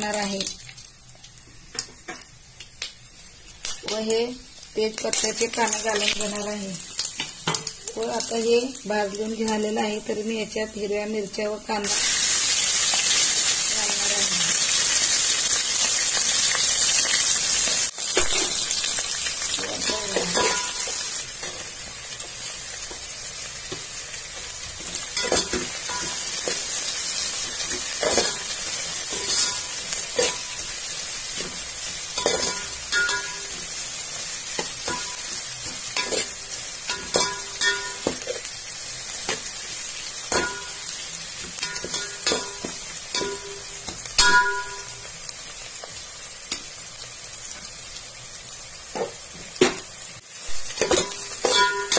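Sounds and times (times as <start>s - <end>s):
onions sizzling in hot oil: 0.0s - 51.9s.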